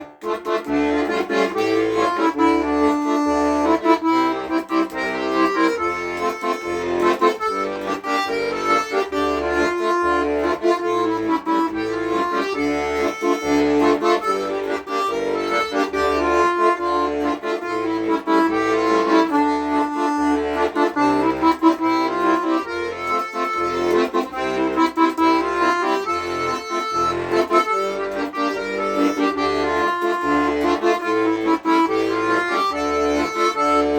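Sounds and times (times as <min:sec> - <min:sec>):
accordion playing: 0:00.0 - 0:33.9.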